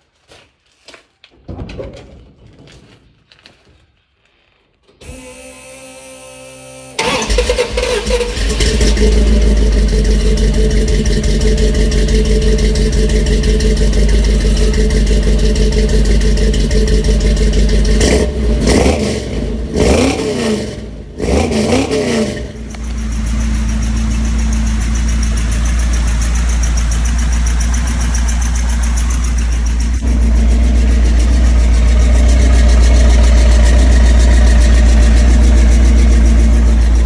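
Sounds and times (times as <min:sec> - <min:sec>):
engine revving and idling: 0:05.0 - 0:37.0.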